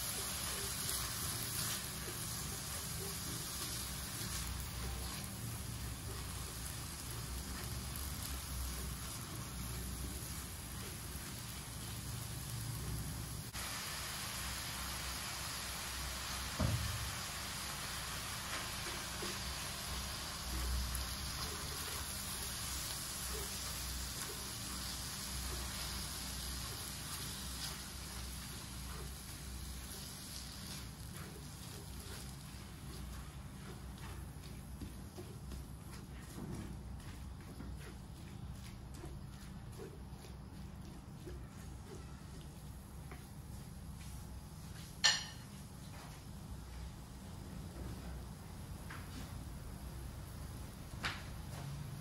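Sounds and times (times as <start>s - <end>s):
meat sizzling in a wok: 0.0s - 37.2s, 42.7s - 52.0s
spatula stirring in a wok: 0.0s - 50.8s.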